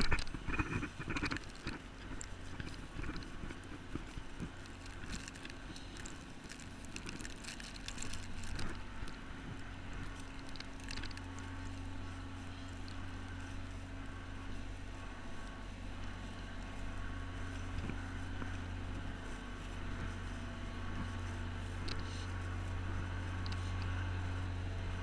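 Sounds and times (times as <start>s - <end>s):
train low hum: 0.0s - 25.0s
clothing rustle: 0.8s - 24.2s.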